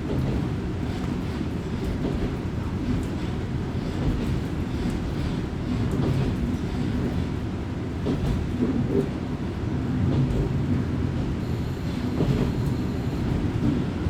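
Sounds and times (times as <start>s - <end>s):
railcar engine and wheels rumbling: 0.0s - 14.0s.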